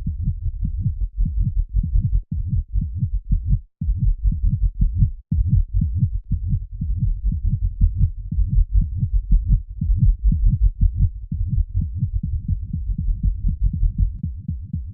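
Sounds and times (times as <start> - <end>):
fast heartbeat thuds: 0.0 - 14.9.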